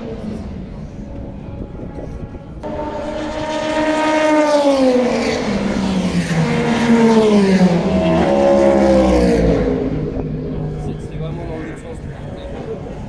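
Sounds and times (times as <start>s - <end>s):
race cars passing by: 0.0s - 13.0s.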